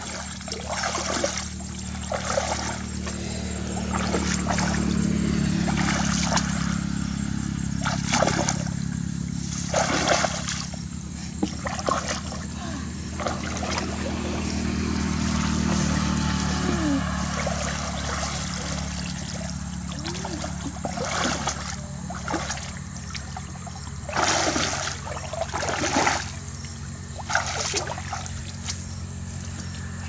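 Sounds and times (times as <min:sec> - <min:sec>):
low engine hum: 0:00.0 - 0:30.0
water sloshing and splashing: 0:00.0 - 0:30.0.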